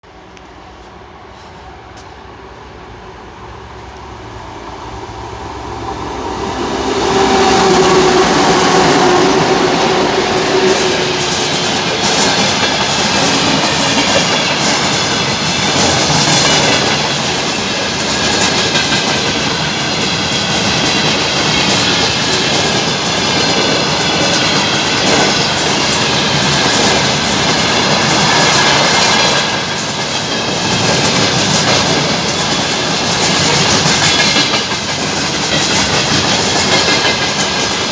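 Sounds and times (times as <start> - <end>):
diesel locomotive engine: 0.0 - 37.9
train wheels clacking on rail joints: 4.6 - 37.9.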